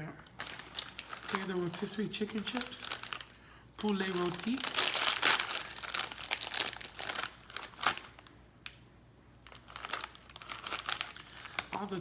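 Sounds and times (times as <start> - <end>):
plastic chip bag crinkling: 0.0 - 8.8, 9.4 - 12.0.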